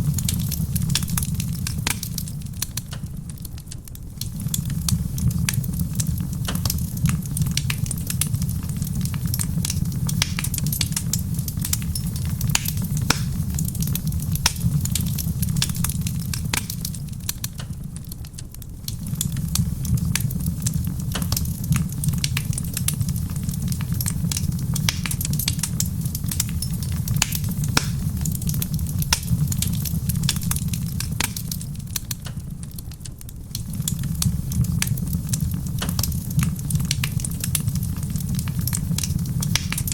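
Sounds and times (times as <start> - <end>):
fire pops and snaps: 0.0 - 39.9
wood fire crackling: 0.0 - 39.9.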